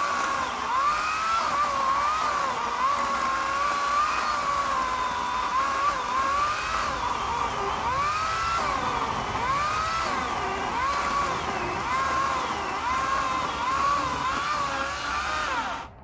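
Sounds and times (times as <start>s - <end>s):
power saw cutting logs: 0.0s - 16.0s.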